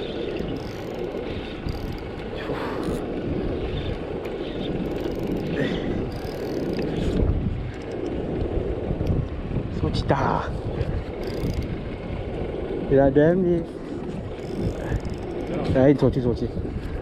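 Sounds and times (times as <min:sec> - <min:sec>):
boat engine rumble: 0:00.0 - 0:17.0
wind buffeting microphone: 0:00.0 - 0:17.0.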